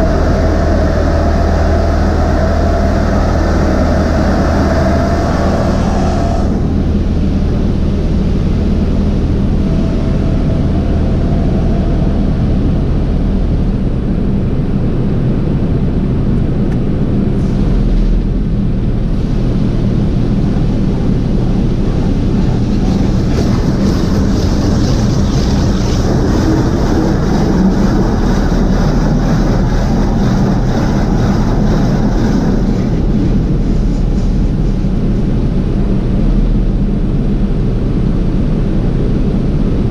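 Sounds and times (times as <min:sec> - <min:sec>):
car wash machinery rushing: 0:00.0 - 0:39.9
low hum: 0:00.0 - 0:39.9.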